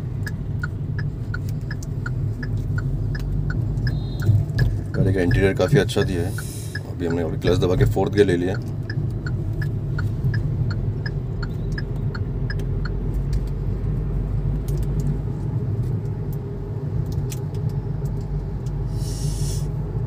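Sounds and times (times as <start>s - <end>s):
engine and road rumble: 0.0s - 20.0s
turn signal ticking: 0.0s - 20.0s.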